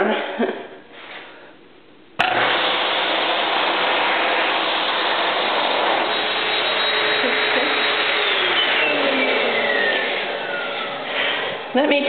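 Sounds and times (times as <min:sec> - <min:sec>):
hand dryer blowing air: 0:02.2 - 0:12.0.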